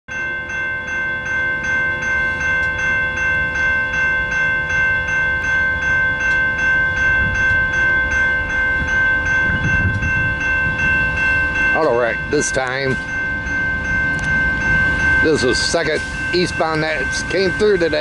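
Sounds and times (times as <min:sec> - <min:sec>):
crossing warning bell ringing: 0:00.1 - 0:18.0.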